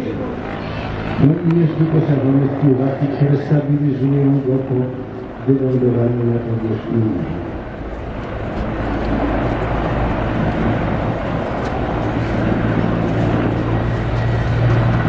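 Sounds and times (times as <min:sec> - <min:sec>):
helicopter flying past: 0:00.0 - 0:15.0
low hum: 0:00.0 - 0:15.0.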